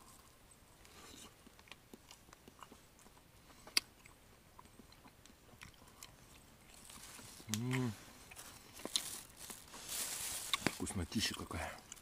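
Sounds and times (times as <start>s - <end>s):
person chewing and eating: 0.0s - 12.0s.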